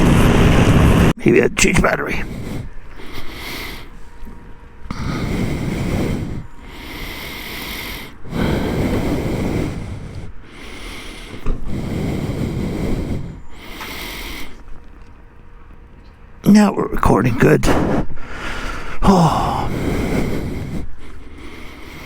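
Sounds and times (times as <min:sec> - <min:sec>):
heavy breathing: 0:00.2 - 0:15.6, 0:16.8 - 0:22.0.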